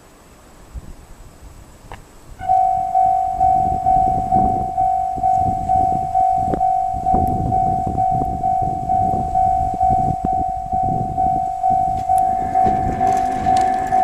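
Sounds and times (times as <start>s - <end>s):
approaching diesel train: 2.4s - 14.0s.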